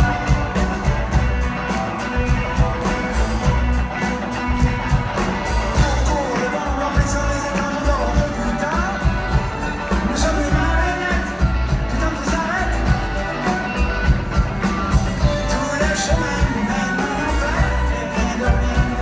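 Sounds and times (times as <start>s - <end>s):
drum beat: 0.0s - 19.0s
electric guitar: 0.0s - 19.0s
violins: 0.0s - 19.0s.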